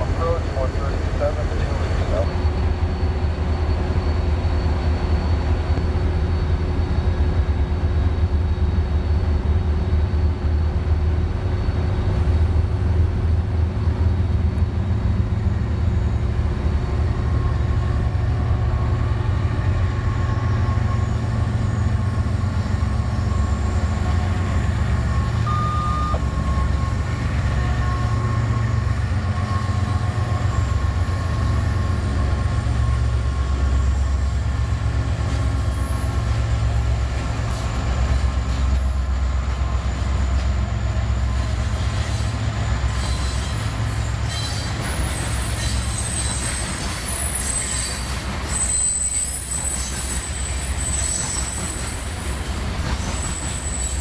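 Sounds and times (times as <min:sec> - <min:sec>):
diesel locomotives rumbling: 0:00.0 - 0:54.0.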